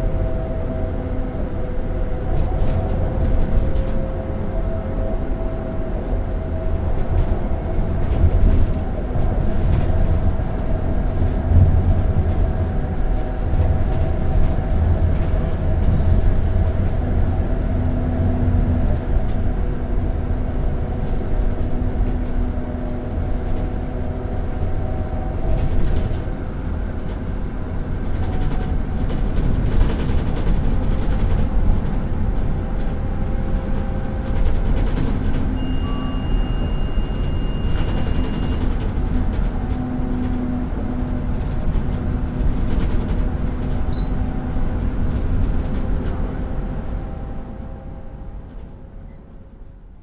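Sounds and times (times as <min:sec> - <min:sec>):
bus engine and road rumble: 0:00.0 - 0:50.0.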